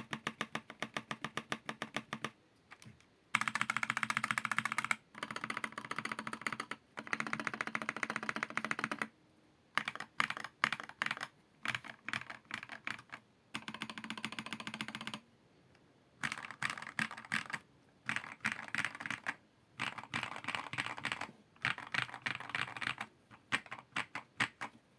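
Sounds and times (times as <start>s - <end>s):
typing on mechanical keyboard: 0.0s - 9.1s, 9.8s - 15.2s, 16.2s - 24.8s.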